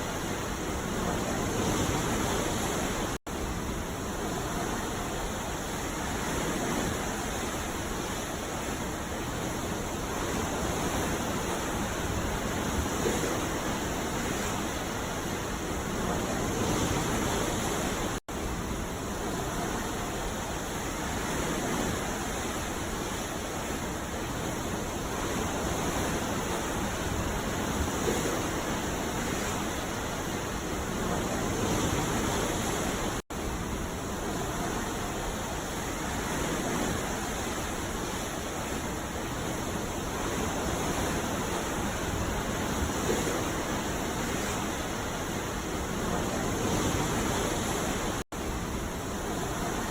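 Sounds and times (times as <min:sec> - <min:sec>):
sea surf rushing: 0:00.0 - 0:49.9.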